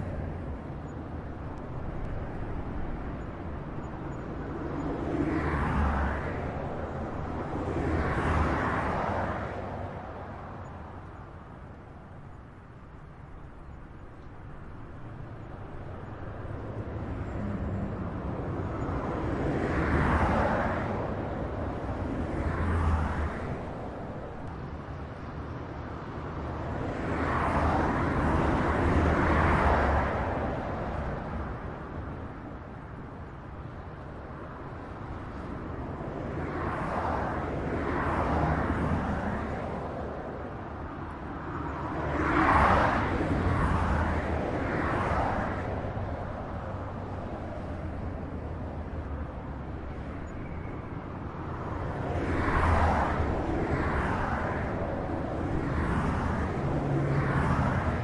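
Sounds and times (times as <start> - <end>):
highway traffic rumble: 0.0 - 58.0
vehicles passing: 0.0 - 58.0.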